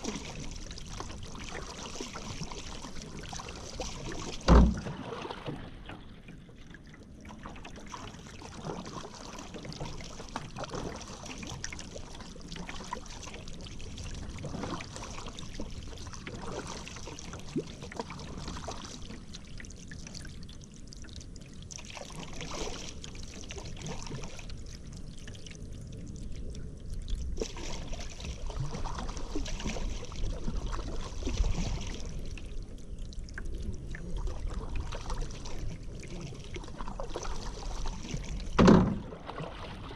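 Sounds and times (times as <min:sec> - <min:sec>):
paddle strokes in water: 0:00.0 - 0:39.9
water trickling off paddle: 0:00.0 - 0:39.9.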